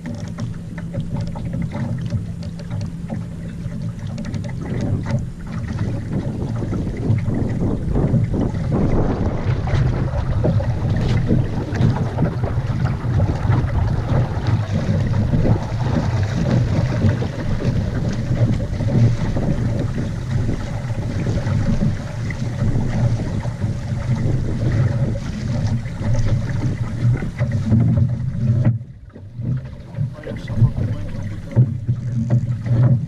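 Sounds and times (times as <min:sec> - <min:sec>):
water washing: 0:00.0 - 0:33.0
wind buffeting microphone: 0:03.1 - 0:33.0.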